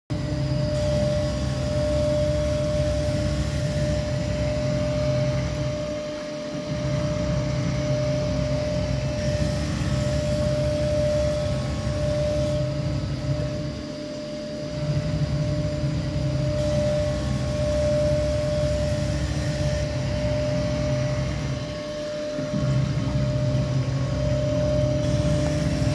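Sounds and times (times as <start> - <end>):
knife grinding machine: 0.1 - 25.9.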